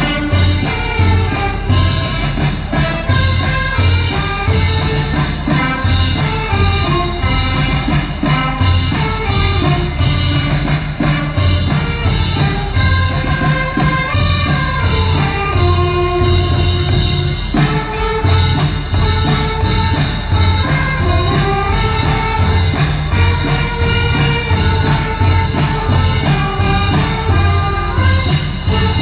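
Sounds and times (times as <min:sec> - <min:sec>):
brass band playing a melody: 0:00.0 - 0:29.0
pulsing drum and bass beat: 0:00.0 - 0:29.0.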